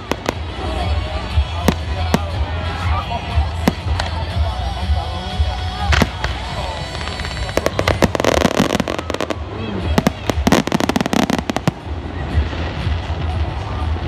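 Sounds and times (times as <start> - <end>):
fireworks cracking: 0.0 - 14.0.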